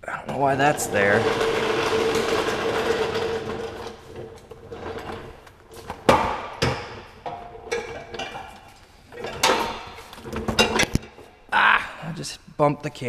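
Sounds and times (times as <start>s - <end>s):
casters rattling over concrete: 0.2s - 11.3s.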